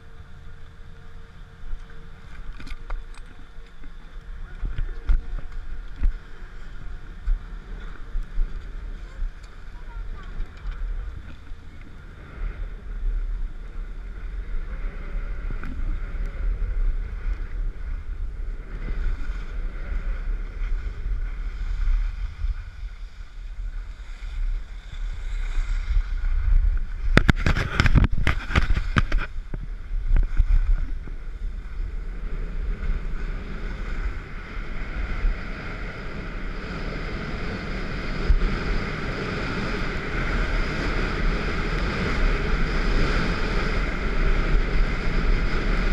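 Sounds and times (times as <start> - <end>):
wind rumbling on microphone: 0.0 - 45.9.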